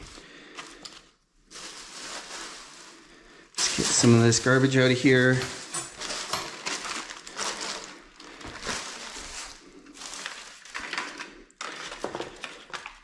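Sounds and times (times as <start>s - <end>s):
packaging crumpling and rustling: 0.0s - 13.0s.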